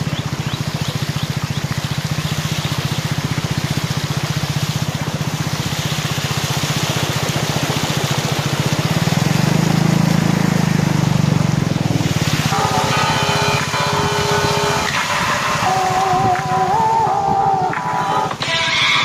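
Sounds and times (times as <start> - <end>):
small motorcycle engine running: 0.0 - 19.0
water hissing from tyres: 0.0 - 19.0.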